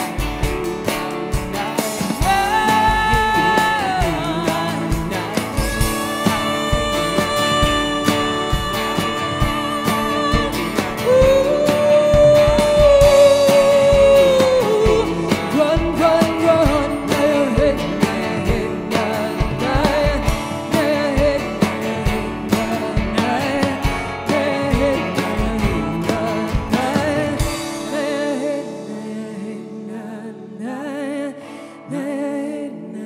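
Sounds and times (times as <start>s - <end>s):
drum kit: 0.0s - 29.6s
acoustic guitars: 0.0s - 33.0s
woman singing: 0.4s - 33.0s.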